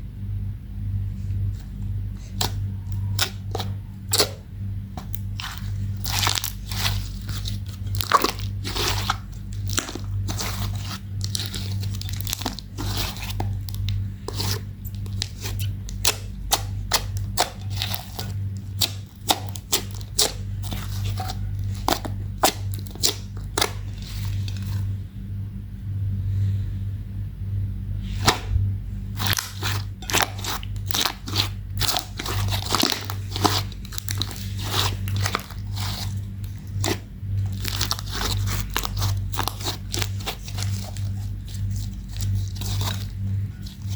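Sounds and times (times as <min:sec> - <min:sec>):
low hum: 0:00.0 - 0:43.9
sticky slime pops and crackles: 0:02.2 - 0:04.4, 0:05.0 - 0:24.8, 0:29.2 - 0:43.9.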